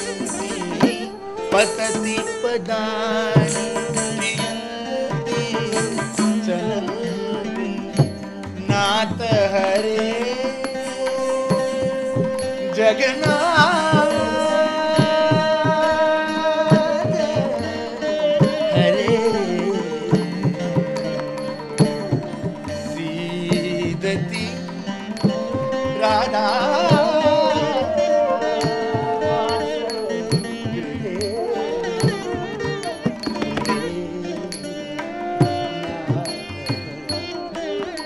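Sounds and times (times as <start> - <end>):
flute: 0.0 - 38.0
mridangam drum strokes: 0.0 - 38.0
person singing ornamented melody: 0.0 - 38.0
veena: 0.0 - 38.0.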